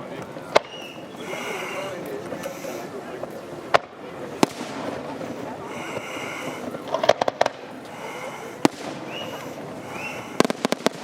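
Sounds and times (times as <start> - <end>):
fireworks exploding: 0.2 - 2.4, 3.2 - 11.0.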